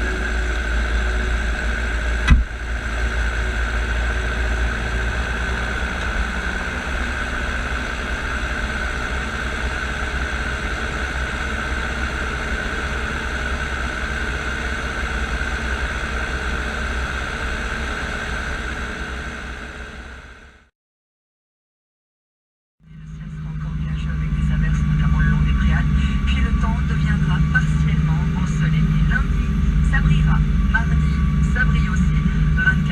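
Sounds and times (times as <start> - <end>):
engine drone with whine: 0.0 - 20.7, 22.8 - 32.9.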